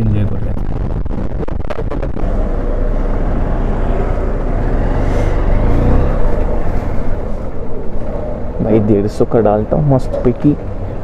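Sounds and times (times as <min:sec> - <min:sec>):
motorcycle engine rumble: 0:00.0 - 0:11.0
road noise: 0:00.0 - 0:11.0.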